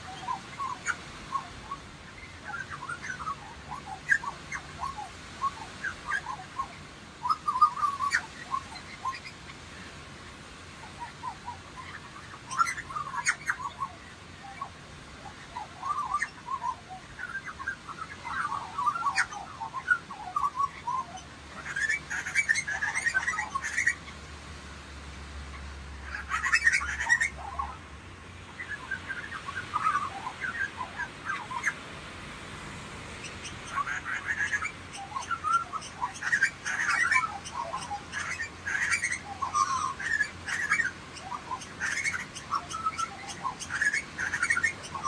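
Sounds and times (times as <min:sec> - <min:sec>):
lorikeets chirping: 0:00.0 - 0:10.0, 0:10.7 - 0:24.2, 0:25.4 - 0:31.8, 0:33.1 - 0:45.0.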